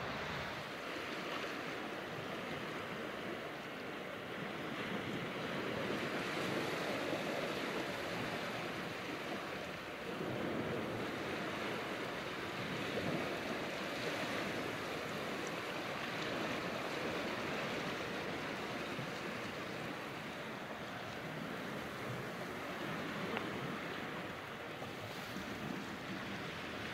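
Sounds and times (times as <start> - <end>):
sea waves washing over rocks: 0.0 - 26.9.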